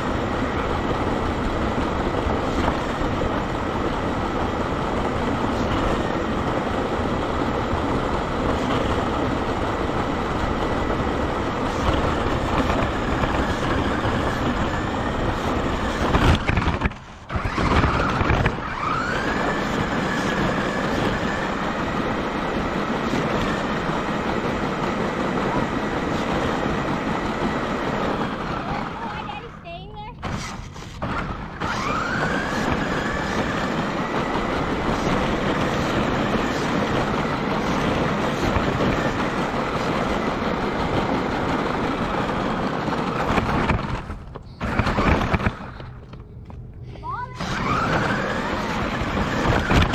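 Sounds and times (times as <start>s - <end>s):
high motor whine: 0.0s - 49.9s
toy truck tyres rumbling: 0.0s - 49.9s.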